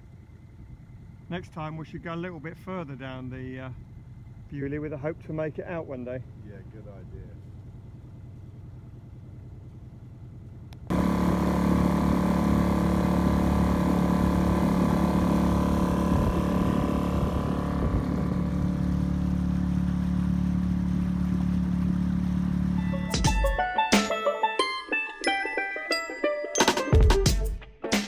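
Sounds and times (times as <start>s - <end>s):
boat engine running: 0.1s - 23.4s.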